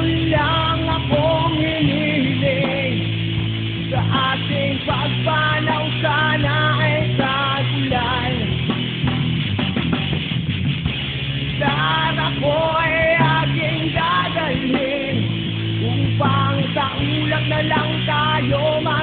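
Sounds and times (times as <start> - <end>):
instrumental rock band music: 0.0 - 19.0.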